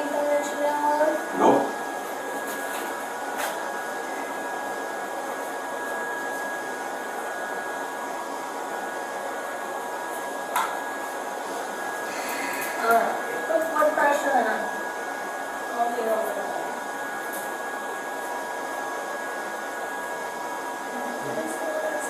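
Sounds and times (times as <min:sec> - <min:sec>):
faint high whine: 0:00.0 - 0:22.0.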